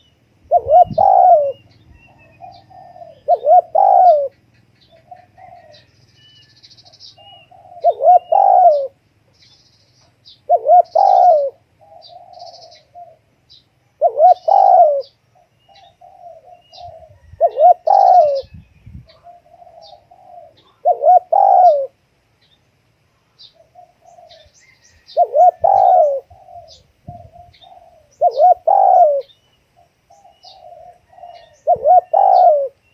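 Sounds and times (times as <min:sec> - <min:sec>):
dove cooing: 0:00.0 - 0:09.0, 0:10.4 - 0:13.4, 0:14.0 - 0:22.0, 0:23.3 - 0:32.9
small birds chirping: 0:00.0 - 0:32.9.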